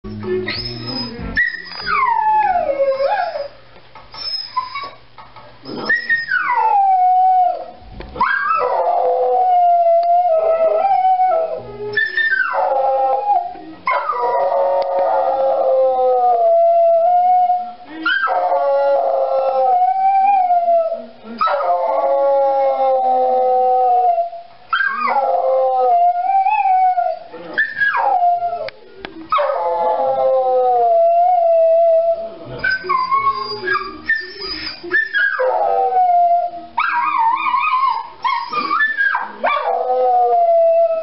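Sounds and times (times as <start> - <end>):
dog howling: 0.4 - 3.6, 5.8 - 41.0.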